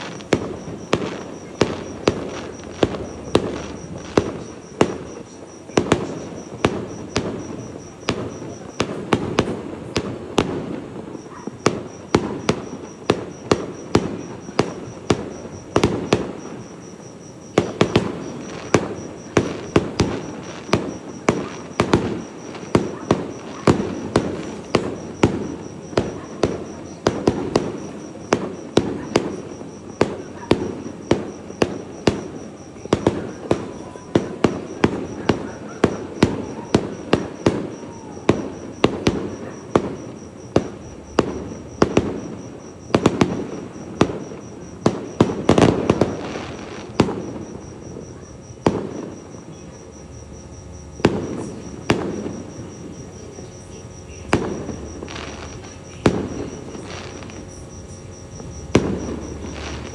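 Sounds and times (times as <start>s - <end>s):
fireworks bangs: 0.0s - 59.9s
high insect chirping: 0.0s - 59.9s.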